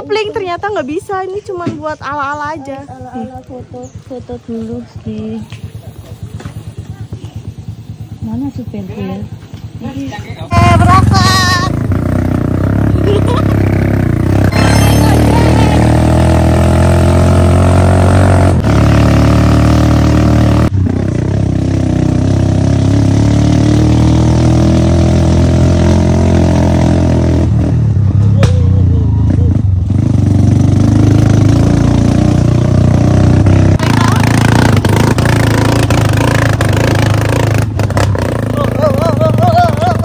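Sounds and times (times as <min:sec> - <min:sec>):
small motorcycle engine revving: 0:05.0 - 0:40.0.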